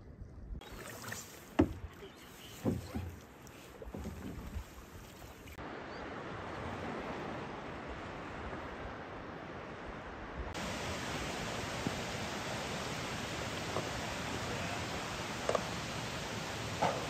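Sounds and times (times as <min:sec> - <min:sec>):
steady outdoor hiss: 0:00.6 - 0:17.0.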